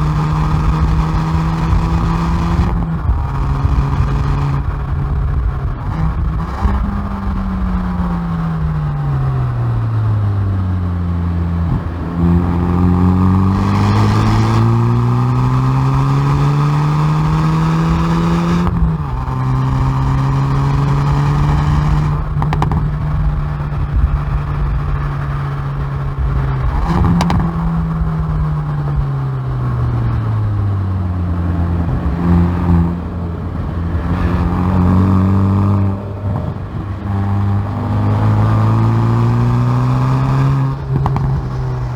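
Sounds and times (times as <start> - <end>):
car engine and exhaust accelerating: 0.0 - 41.9
gear changes: 0.0 - 41.9.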